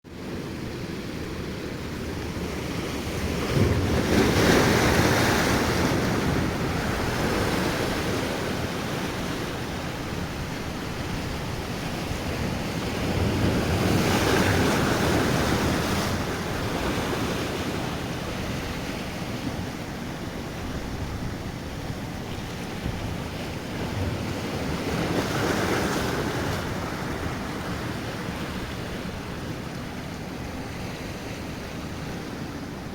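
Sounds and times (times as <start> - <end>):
surf washing onto shore: 0.4 - 32.9
waves breaking: 0.4 - 32.9
wind buffeting microphone: 3.0 - 30.7.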